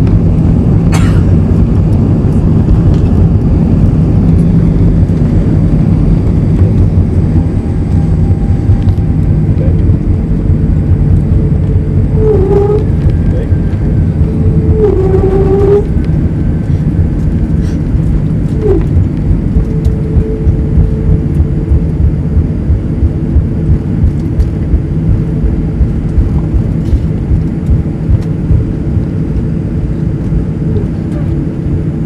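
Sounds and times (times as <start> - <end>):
faint held whine: 0.0 - 32.0
jet engine and airflow rumble: 0.0 - 32.0.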